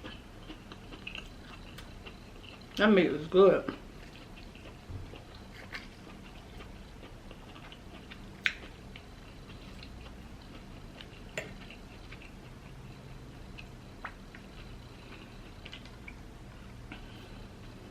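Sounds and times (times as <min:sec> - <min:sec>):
quiet chewing: 0:00.0 - 0:02.9, 0:03.6 - 0:17.9.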